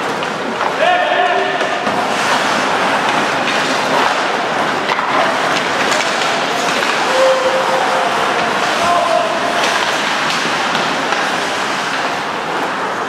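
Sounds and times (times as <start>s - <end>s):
hockey sticks and puck clacking: 0.0s - 13.0s
skate blades scraping ice: 0.0s - 13.0s.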